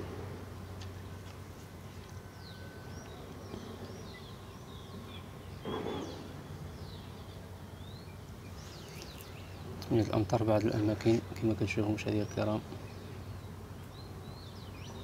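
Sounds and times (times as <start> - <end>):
steady low hum: 0.0 - 15.0
small birds chirping: 0.5 - 15.0.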